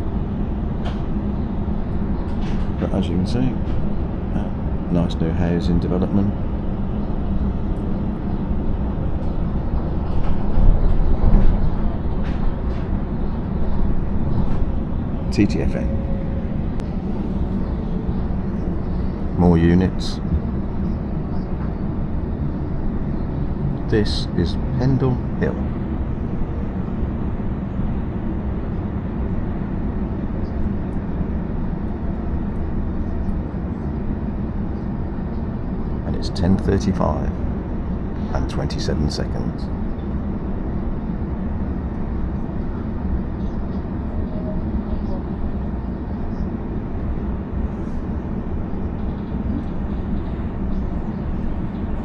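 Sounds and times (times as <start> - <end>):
train rumbling inside carriage: 0.0 - 52.0.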